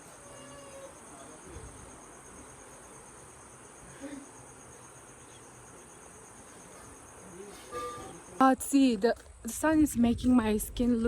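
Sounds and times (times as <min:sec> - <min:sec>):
insects trilling: 0:00.0 - 0:10.6.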